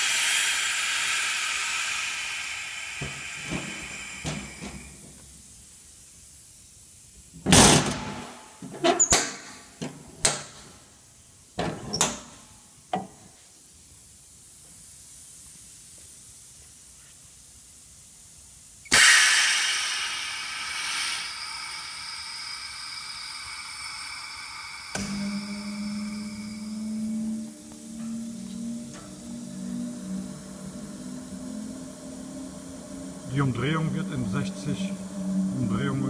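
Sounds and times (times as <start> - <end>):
faint steady whine: 0.0 - 8.9, 9.5 - 36.0
loud hiss: 0.0 - 9.8, 12.2 - 36.0.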